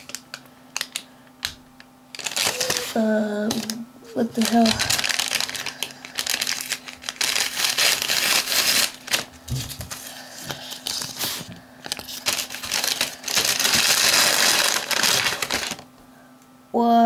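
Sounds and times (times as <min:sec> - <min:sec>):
paper crinkling and rustling: 0:02.1 - 0:15.9.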